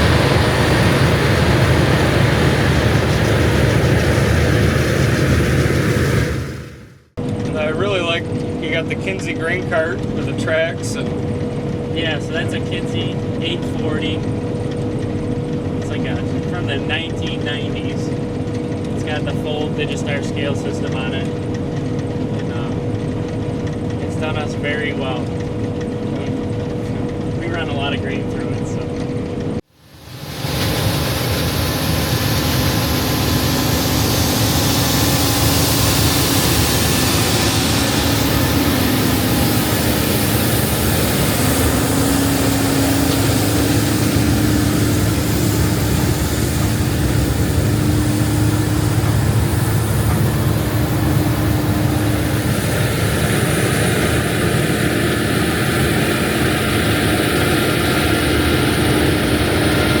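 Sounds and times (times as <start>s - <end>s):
diesel machinery engine drone: 0.0s - 60.0s.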